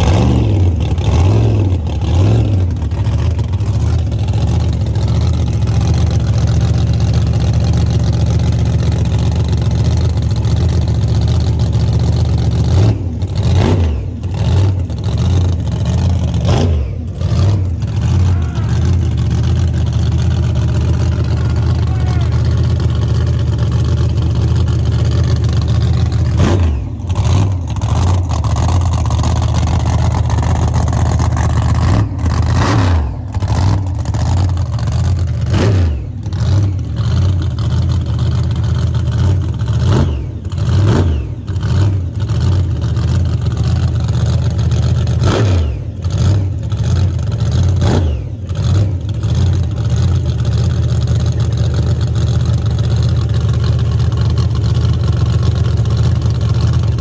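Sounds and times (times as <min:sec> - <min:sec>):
drag car engine revving: 0:00.0 - 0:57.0.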